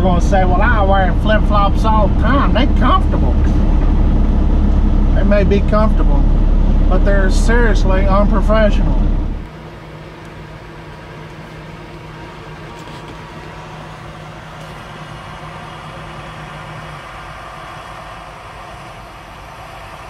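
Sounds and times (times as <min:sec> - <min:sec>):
diesel engine idling: 0:00.0 - 0:20.0
low steady hum: 0:00.0 - 0:20.0.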